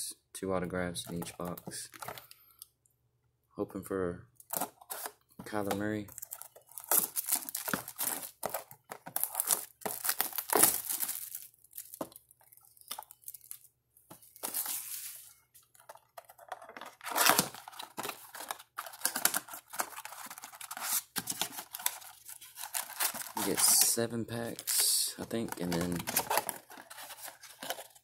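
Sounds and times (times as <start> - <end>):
plastic wrappers crinkling: 4.4 - 13.7, 14.3 - 28.0.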